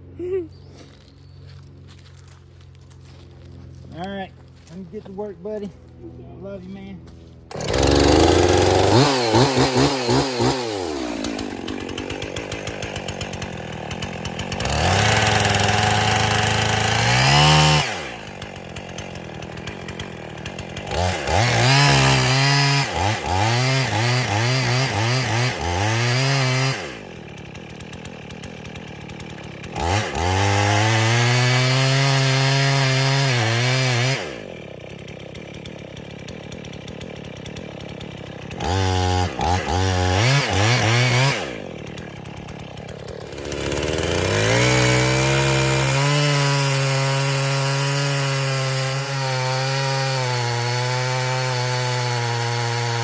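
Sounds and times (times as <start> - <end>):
chainsaw revving and idling: 0.9 - 53.0.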